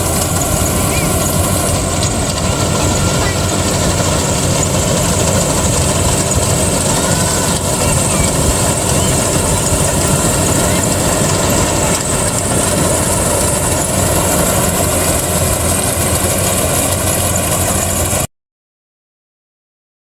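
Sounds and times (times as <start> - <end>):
combine harvester droning: 0.0 - 18.3.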